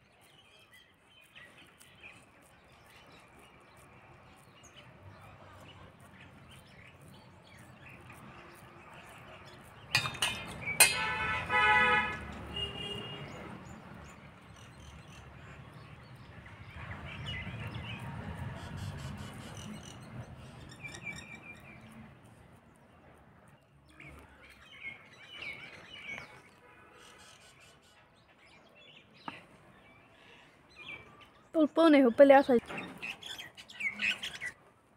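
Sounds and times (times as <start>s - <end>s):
birds chirping: 0.0s - 34.7s.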